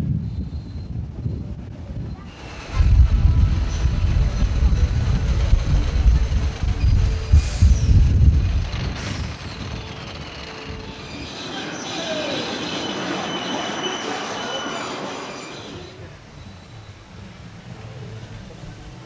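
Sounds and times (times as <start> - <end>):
ride machinery squealing and grinding: 2.1 - 19.0.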